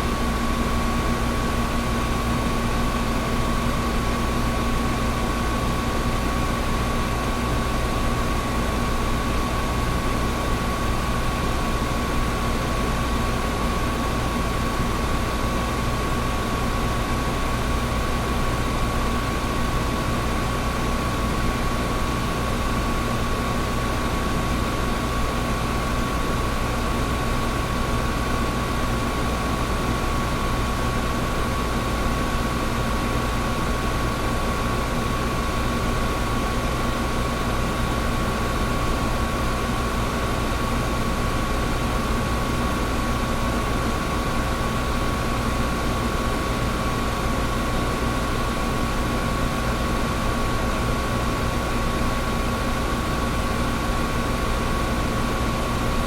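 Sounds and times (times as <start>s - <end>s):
air conditioner running: 0.0s - 56.0s.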